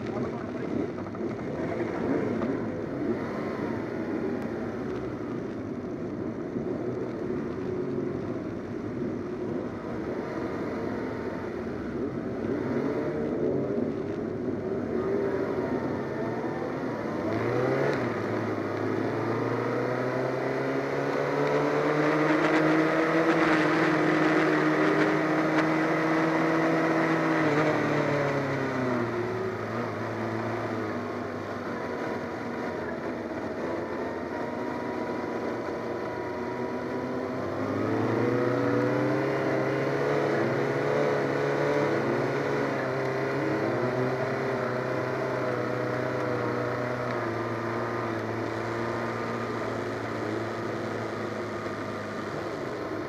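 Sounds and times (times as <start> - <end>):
motorcycle engine revving: 9.0 - 53.0.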